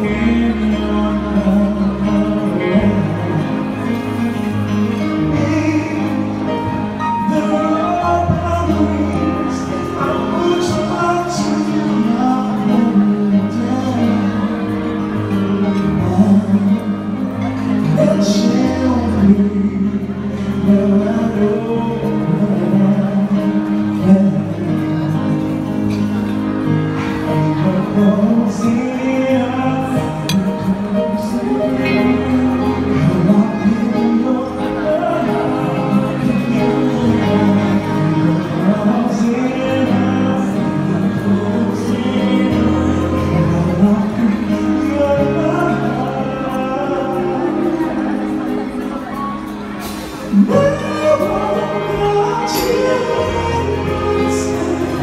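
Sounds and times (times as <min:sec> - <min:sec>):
bass notes: 0:00.0 - 0:55.0
keyboard: 0:00.0 - 0:55.0
live band playing pop ballad: 0:00.0 - 0:55.0
man singing: 0:00.0 - 0:55.0.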